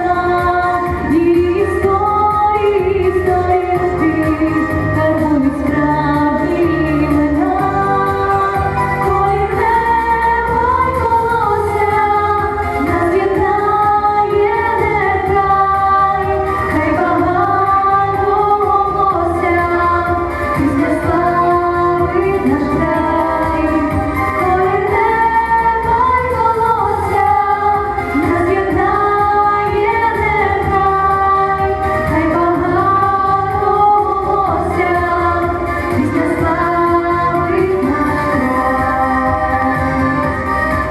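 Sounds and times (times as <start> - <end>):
instrumental accompaniment: 0.0 - 40.9
woman singing: 0.0 - 40.9.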